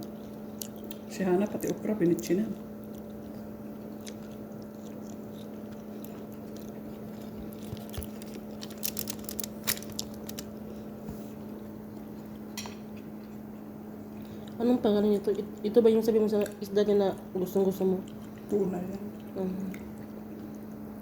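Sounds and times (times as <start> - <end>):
chewing food: 0.0 - 21.0.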